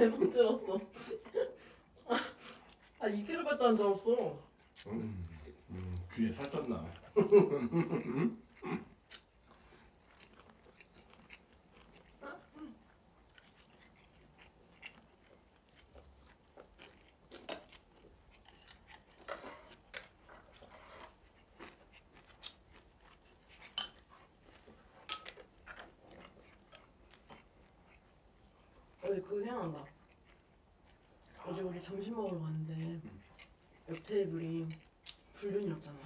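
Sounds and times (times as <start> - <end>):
quiet chewing: 0.7 - 36.0.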